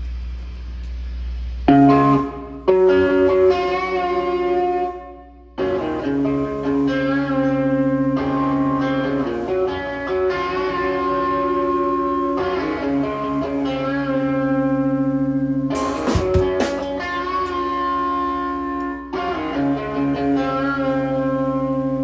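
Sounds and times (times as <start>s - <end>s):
electric guitar chords: 1.6s - 22.0s.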